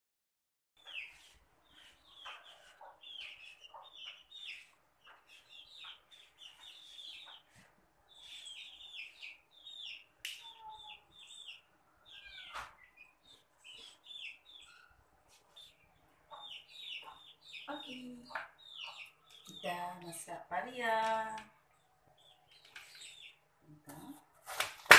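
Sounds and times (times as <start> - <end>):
birds chirping: 0.8 - 24.2.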